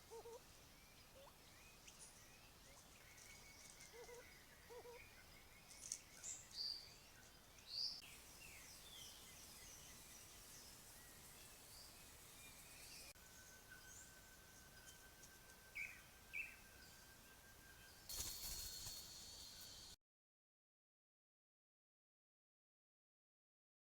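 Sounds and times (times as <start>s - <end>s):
forest ambience: 0.0s - 20.0s.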